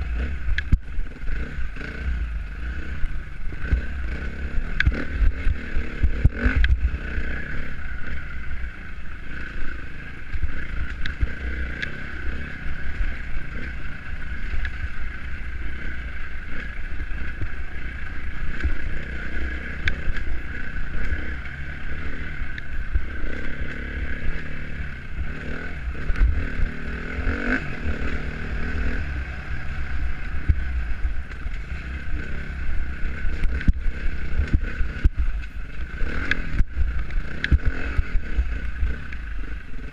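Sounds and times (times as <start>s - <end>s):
dirt bike engine revving: 0.0s - 39.9s
wind rumble on microphone: 0.0s - 39.9s.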